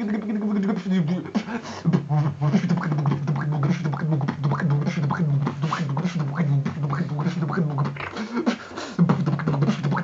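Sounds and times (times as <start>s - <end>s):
beatboxing: 0.0s - 10.0s.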